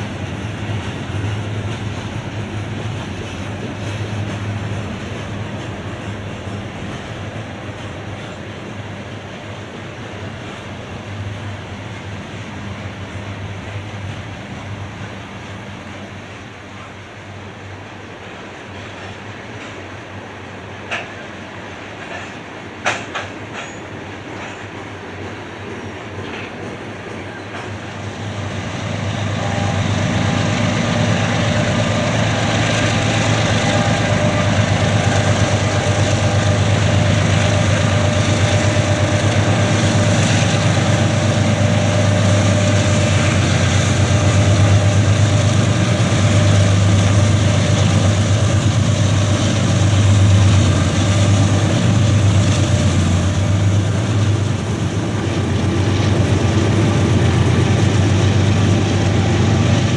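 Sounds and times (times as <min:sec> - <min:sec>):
diesel locomotive engines: 0:00.0 - 0:59.9
train wheels on rails: 0:00.0 - 0:59.9.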